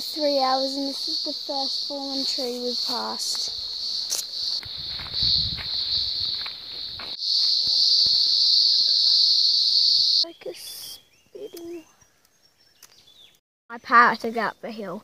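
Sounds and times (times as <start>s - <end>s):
insect chorus droning: 0.0s - 12.9s.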